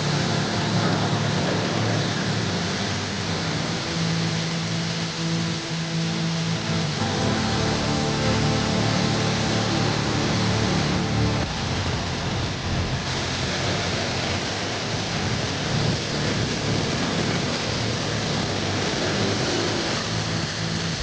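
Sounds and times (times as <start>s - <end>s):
pressure washer spraying water: 0.0s - 21.0s.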